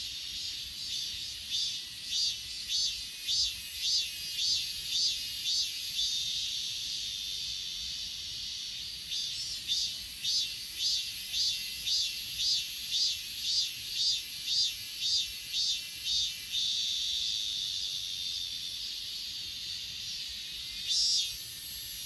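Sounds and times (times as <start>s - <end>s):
grass insects chirping: 0.0s - 22.0s
high insect pulsing: 0.2s - 22.0s.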